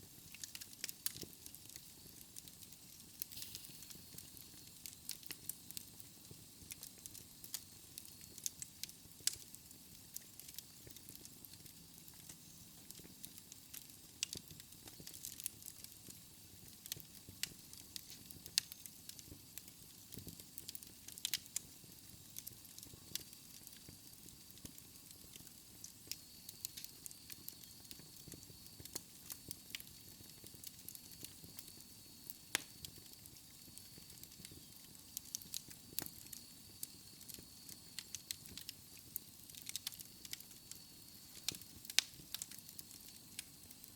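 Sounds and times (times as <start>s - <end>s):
soft fire hiss: 0.0s - 43.9s
wood fire crackling and popping: 0.0s - 43.9s.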